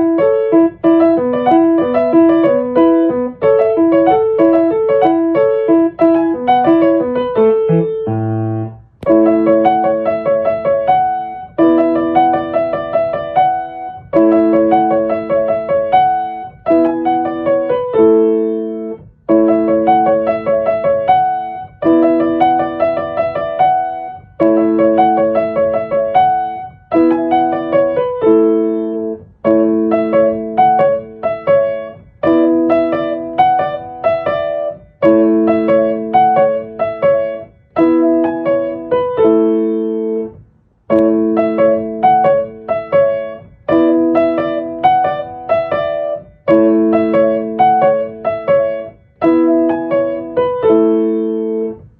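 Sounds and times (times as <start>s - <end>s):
piano chords: 0.0s - 51.9s.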